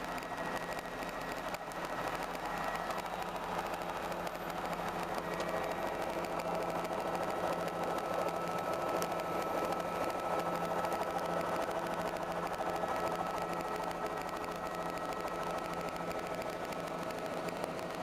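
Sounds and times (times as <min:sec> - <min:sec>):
helicopter drone: 0:00.0 - 0:18.0.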